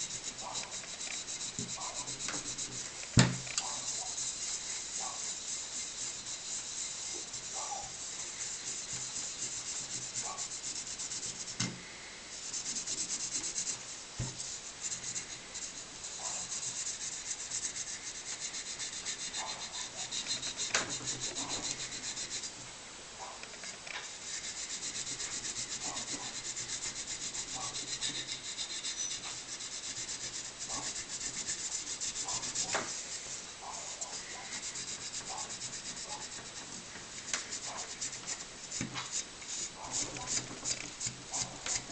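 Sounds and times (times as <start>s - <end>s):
scrubbing metal with abrasive: 0.0s - 11.7s, 12.3s - 22.6s, 24.0s - 41.9s.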